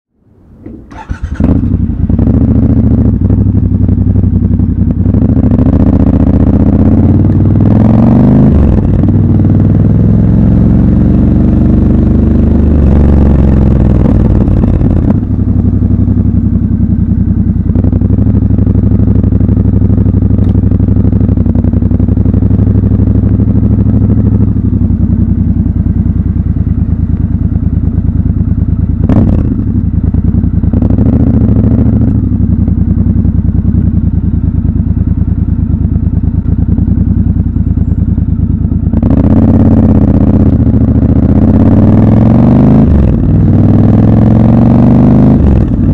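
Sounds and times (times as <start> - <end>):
motorcycle engine at low revs: 0.2 - 45.9.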